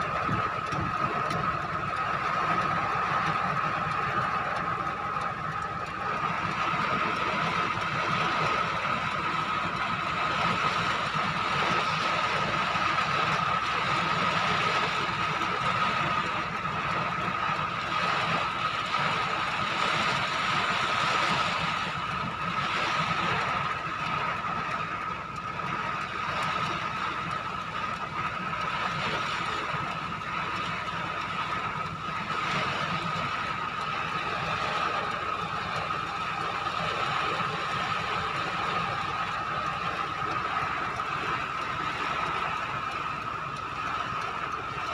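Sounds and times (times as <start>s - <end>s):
constant high-pitched tone: 0.0s - 44.9s
heavy rain: 0.0s - 44.9s.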